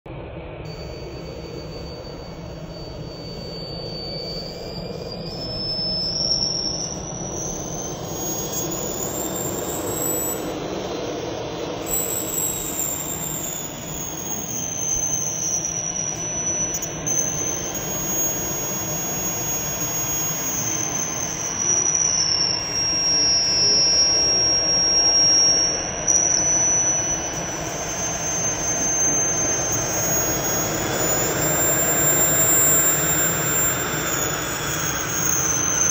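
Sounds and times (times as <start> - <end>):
high whine: 0.2 - 35.9
model jet turbine roar: 0.7 - 35.9.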